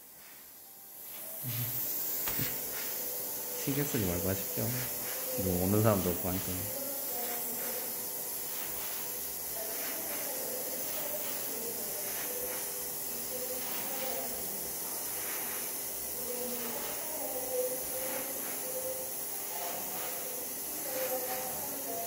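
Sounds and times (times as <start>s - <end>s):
airbrush spraying hiss: 0.0s - 22.0s.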